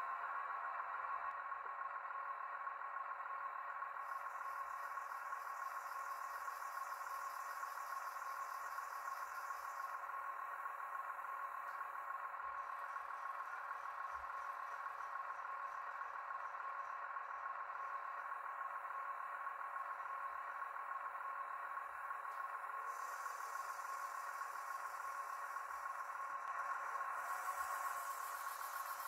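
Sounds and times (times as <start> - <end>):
electric motor whine: 4.1 - 16.5, 17.3 - 29.0.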